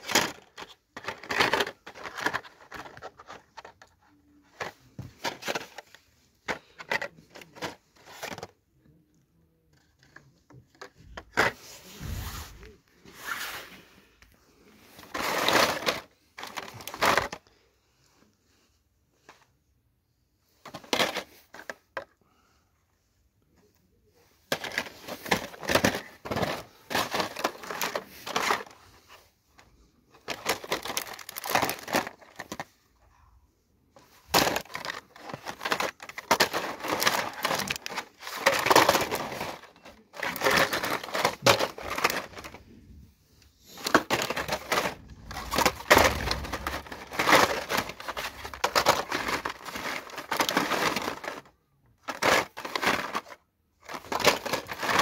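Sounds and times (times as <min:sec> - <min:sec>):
plastic packs rustling and crinkling: 0:00.0 - 0:08.6, 0:09.8 - 0:19.5, 0:20.4 - 0:22.5, 0:24.0 - 0:33.1, 0:33.8 - 0:55.0.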